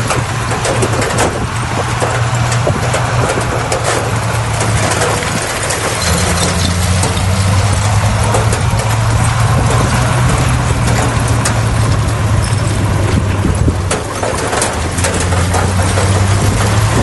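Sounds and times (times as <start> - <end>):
diesel engine running: 0.0 - 17.0
sharp clicks and rattles: 0.0 - 17.0.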